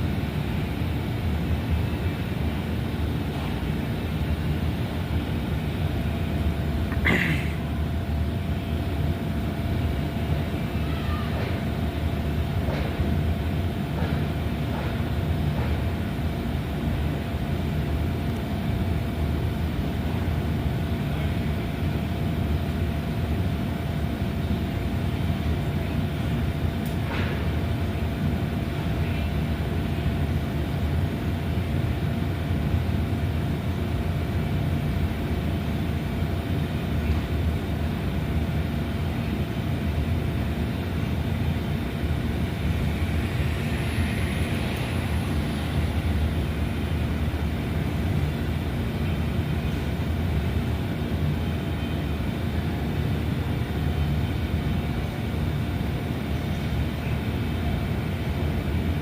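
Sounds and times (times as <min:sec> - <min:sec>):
light rail train running: 0:00.0 - 0:59.0.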